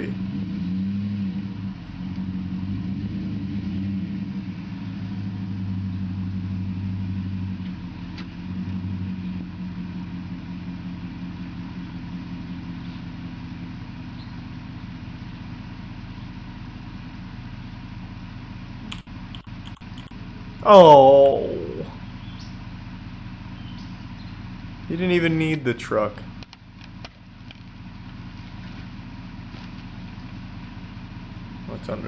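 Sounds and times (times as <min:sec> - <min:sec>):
truck engine under load: 0:00.0 - 0:32.0.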